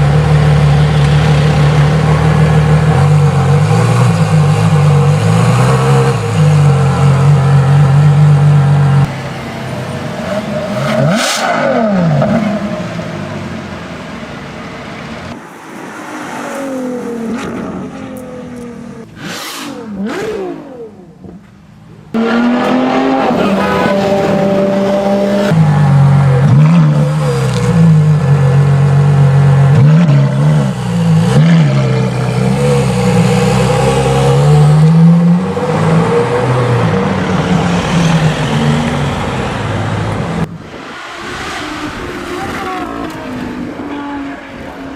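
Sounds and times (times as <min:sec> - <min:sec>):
car engine revving and accelerating: 0:00.0 - 0:13.2, 0:15.7 - 0:21.2, 0:22.1 - 0:44.9.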